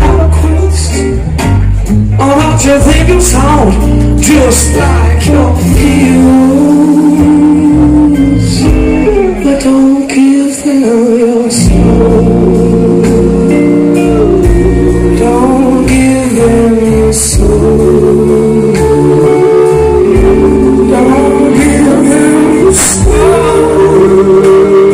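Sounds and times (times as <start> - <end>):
man singing long notes: 0.0 - 1.3, 2.1 - 24.9
live rock band: 0.0 - 24.9.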